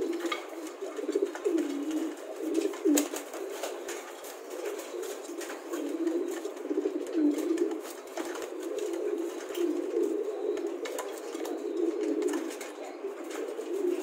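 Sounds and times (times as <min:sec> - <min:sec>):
pigeons cooing: 0:00.0 - 0:14.0
wings flapping: 0:00.0 - 0:14.0.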